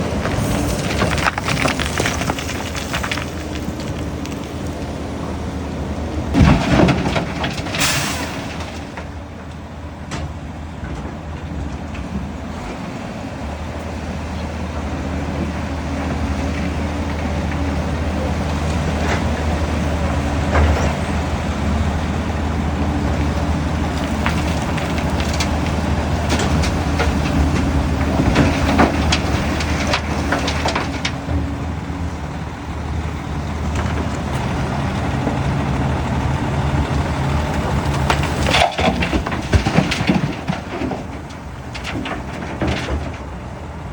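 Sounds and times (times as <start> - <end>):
excavator engine running: 0.0 - 7.8, 9.1 - 43.9.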